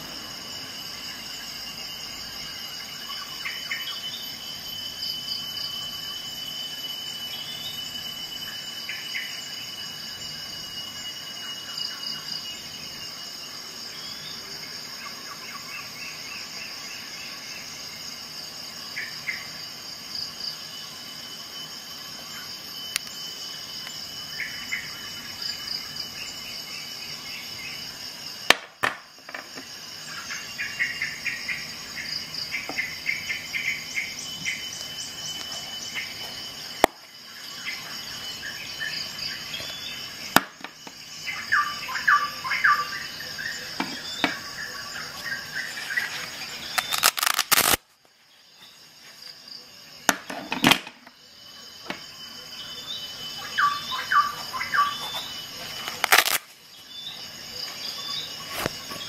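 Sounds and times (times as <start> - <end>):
insect chirps: 0.0 - 59.0
insect chorus trilling: 0.0 - 59.0.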